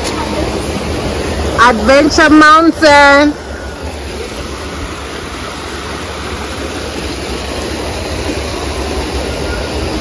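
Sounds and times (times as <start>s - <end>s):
water rushing down waterfall: 0.0s - 10.0s.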